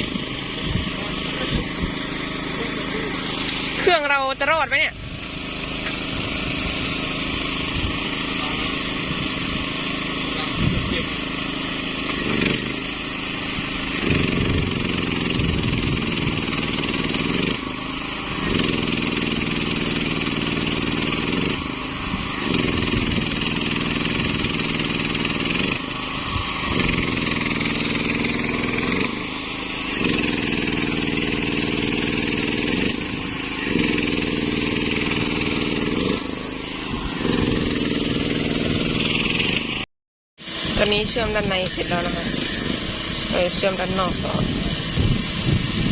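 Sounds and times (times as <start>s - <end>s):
generator engine hum: 0.0s - 45.9s.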